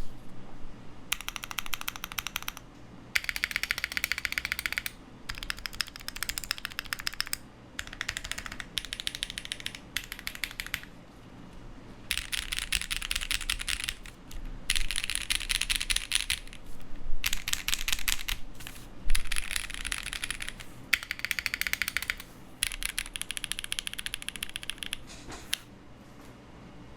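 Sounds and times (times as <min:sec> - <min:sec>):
mechanical keyboard typing: 0:01.1 - 0:11.0, 0:12.1 - 0:16.6, 0:17.2 - 0:25.6.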